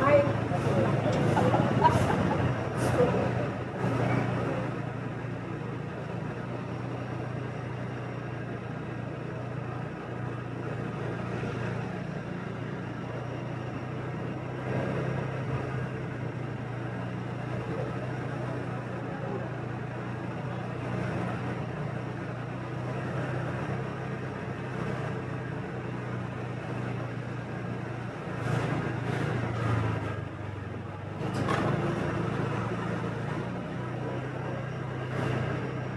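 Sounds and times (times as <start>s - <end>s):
city traffic: 0.0s - 35.9s
road and wind noise: 0.0s - 35.9s.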